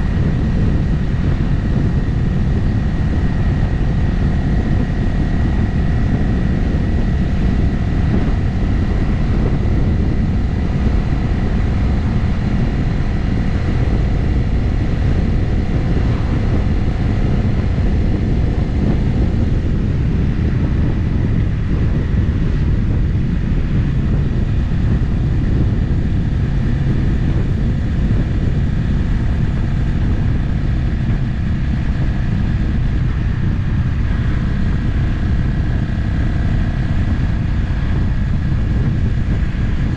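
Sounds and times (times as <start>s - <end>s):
motorcycle engine drone: 0.0s - 39.9s
road and wind noise: 0.0s - 39.9s.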